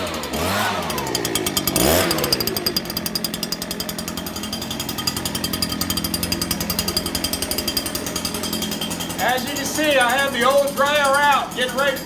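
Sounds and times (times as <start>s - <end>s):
leaf blower engine running: 0.0s - 12.0s.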